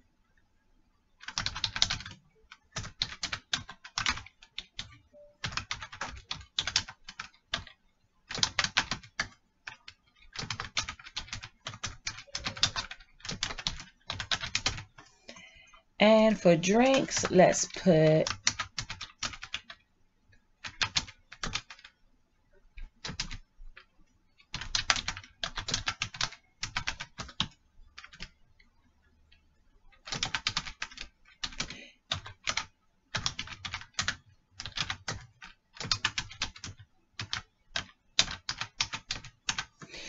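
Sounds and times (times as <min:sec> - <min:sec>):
typing on computer keyboard: 0:01.2 - 0:15.8, 0:16.8 - 0:19.9, 0:20.6 - 0:22.0, 0:22.8 - 0:28.7, 0:29.3 - 0:39.9.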